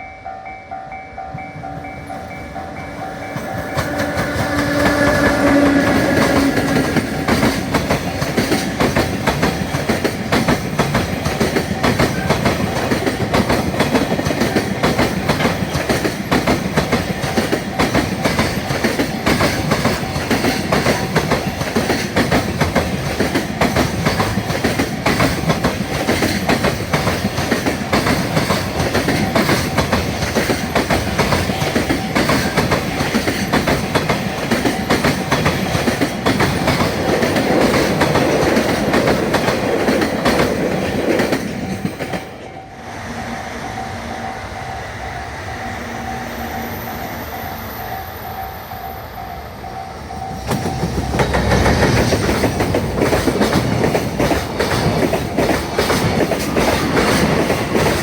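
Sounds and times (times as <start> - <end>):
locomotive hum: 0.3 - 58.0
freight train wheels clattering: 1.3 - 42.6, 50.2 - 58.0.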